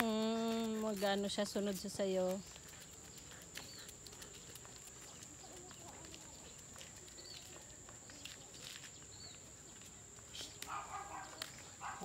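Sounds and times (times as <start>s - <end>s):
bird chirp: 0.2s - 12.0s.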